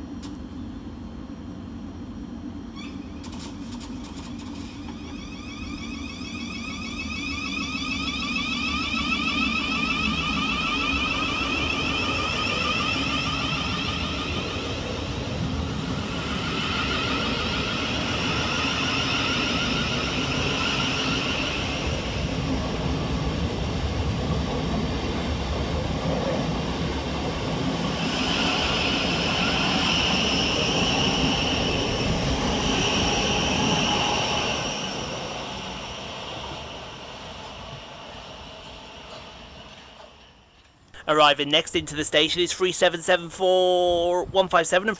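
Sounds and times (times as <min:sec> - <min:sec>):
wheels rumbling on rail: 0:00.0 - 0:41.0
electric train motors whining: 0:02.7 - 0:40.9.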